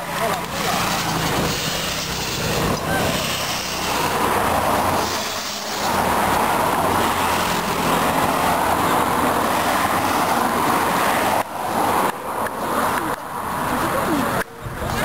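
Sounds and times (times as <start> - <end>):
motorcycles and cars passing: 0.0 - 15.0.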